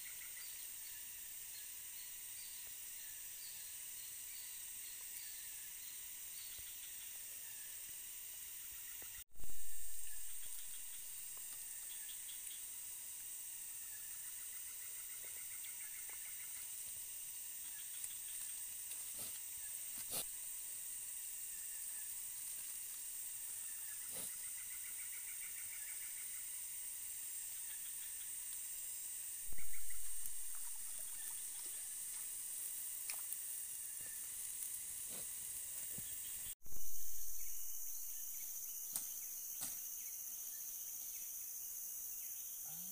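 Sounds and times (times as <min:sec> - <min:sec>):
cicadas and crickets droning: 0:00.0 - 0:42.9
pulsing insect chirps: 0:00.0 - 0:42.9.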